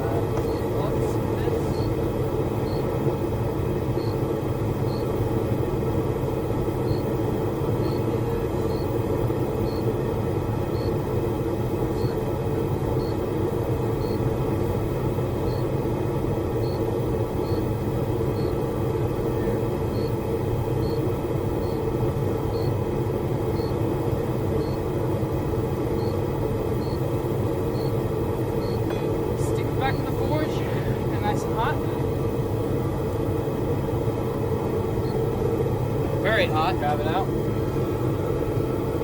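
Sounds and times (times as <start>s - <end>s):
forge burner rumbling hiss: 0.0s - 39.0s.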